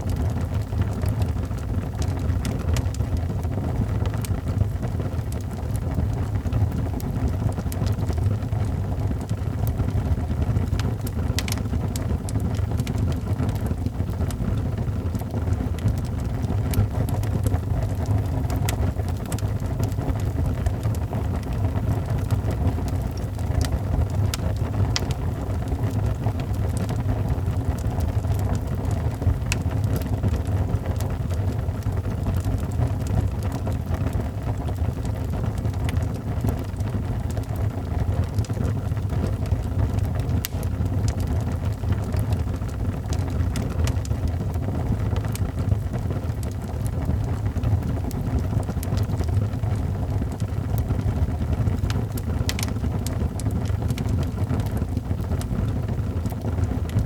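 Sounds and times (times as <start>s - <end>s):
fire crackles and pops: 0.0s - 57.0s
fire rumbling: 0.0s - 57.0s.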